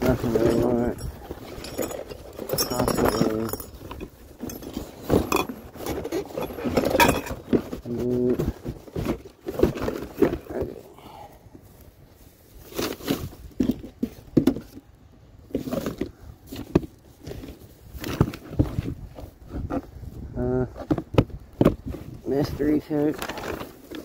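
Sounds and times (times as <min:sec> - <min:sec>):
hard objects knocking and rattling: 0:00.0 - 0:10.8, 0:12.7 - 0:19.9, 0:20.6 - 0:22.1, 0:23.0 - 0:24.0.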